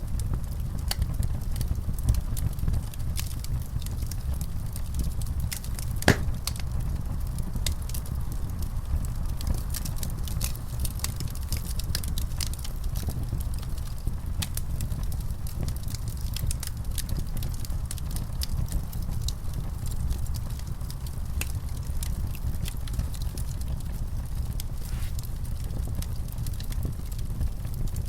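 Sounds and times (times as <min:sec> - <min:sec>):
low rumble of burning: 0:00.0 - 0:28.0
wood fire crackling and popping: 0:00.0 - 0:28.0.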